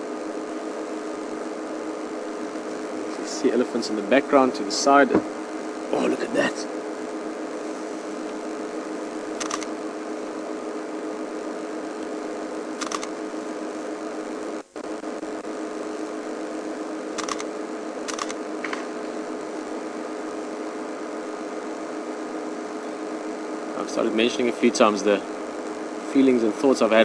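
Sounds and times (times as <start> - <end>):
mechanical hum: 0.0 - 27.0.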